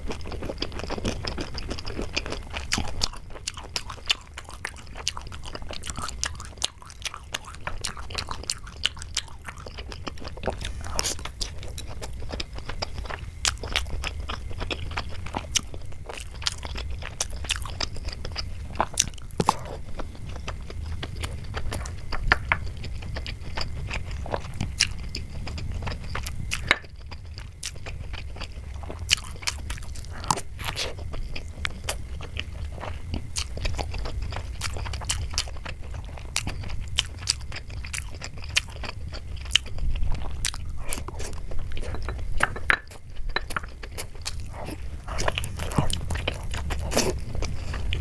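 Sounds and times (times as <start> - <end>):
chewing with sharp clicks: 0.0 - 48.0
steady low hum: 0.0 - 48.0.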